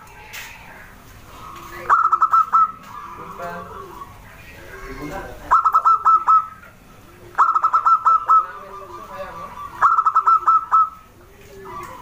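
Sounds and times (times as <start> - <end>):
dove cooing: 0.3 - 12.0.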